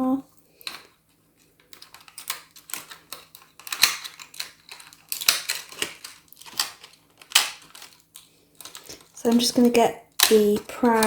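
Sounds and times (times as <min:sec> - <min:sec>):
toy packaging clicks and crinkles: 0:00.4 - 0:11.0.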